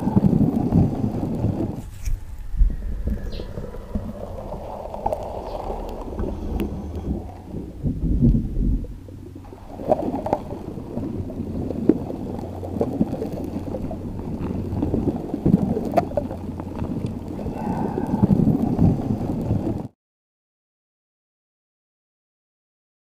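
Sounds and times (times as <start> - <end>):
faint underwater clicks: 0.0 - 19.9
underwater rumble and gurgling: 0.0 - 19.9.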